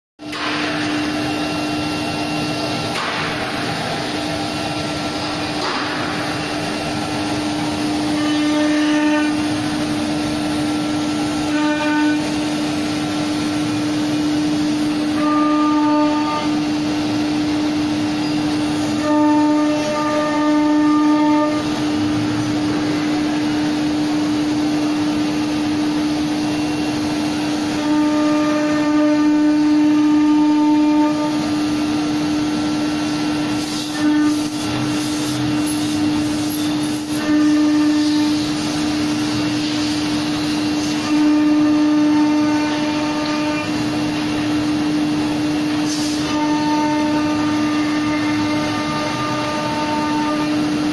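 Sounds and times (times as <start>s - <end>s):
high-pitched machine whines: 0.2s - 50.9s.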